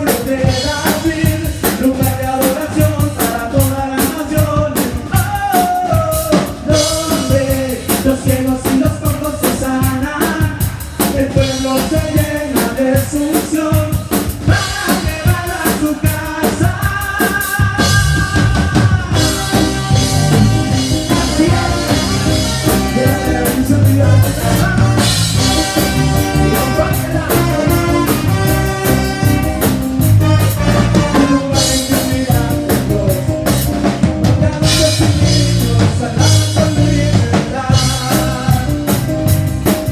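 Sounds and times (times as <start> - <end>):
band music with drums: 0.0 - 39.9.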